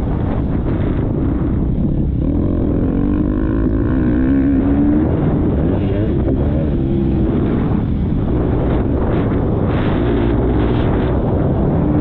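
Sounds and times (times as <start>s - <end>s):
wind buffeting microphone: 0.0s - 12.0s
motocross bike engine revving: 2.2s - 12.0s.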